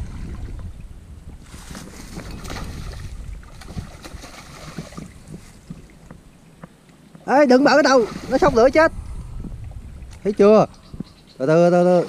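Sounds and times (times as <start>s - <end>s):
muddy water splashing: 0.0s - 10.9s.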